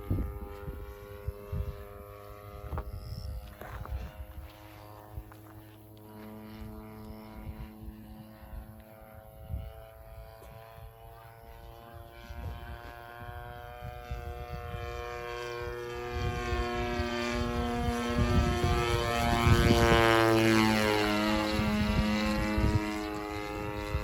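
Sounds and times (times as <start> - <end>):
model plane engine droning: 0.0 - 24.0.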